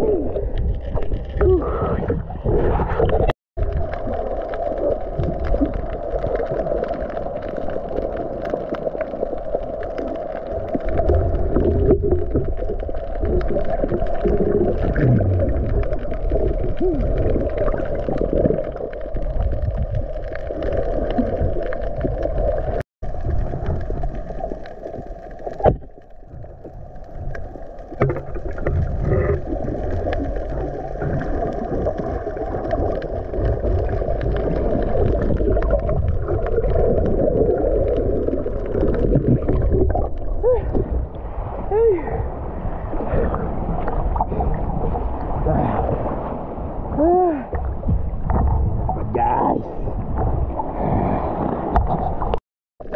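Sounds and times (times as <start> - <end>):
muffled underwater rushing: 0.0 - 52.9.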